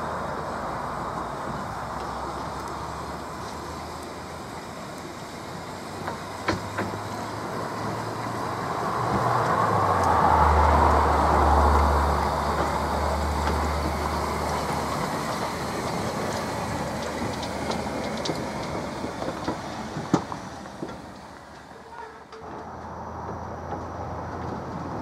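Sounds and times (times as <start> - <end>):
steam locomotive passing: 0.0 - 25.0.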